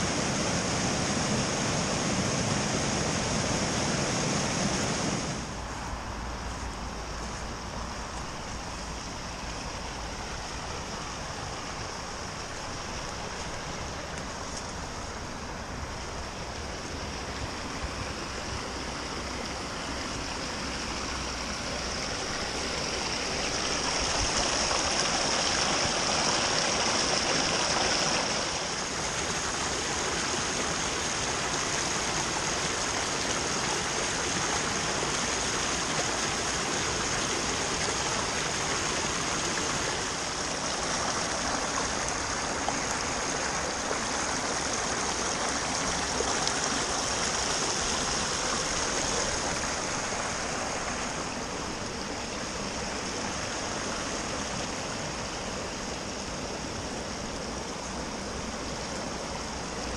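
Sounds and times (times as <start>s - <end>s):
water rushing over a weir: 0.0s - 59.9s.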